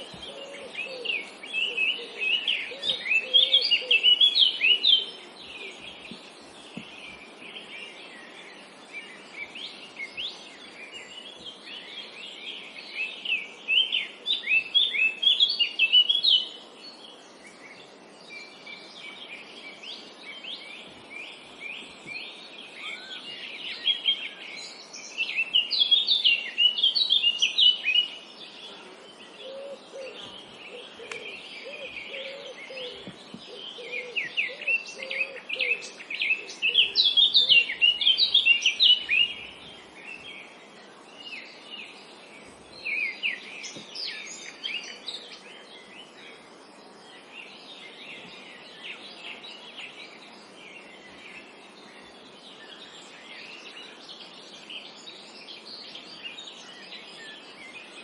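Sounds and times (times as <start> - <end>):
background hiss: 0.0 - 58.0
songbirds chirping trills: 0.0 - 58.0.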